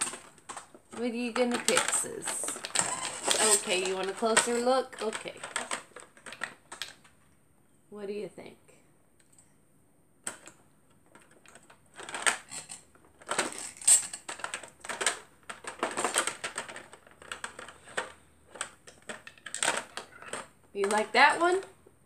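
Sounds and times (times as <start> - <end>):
plastic bottles clattering in a box: 0.0 - 7.2, 10.3 - 21.7.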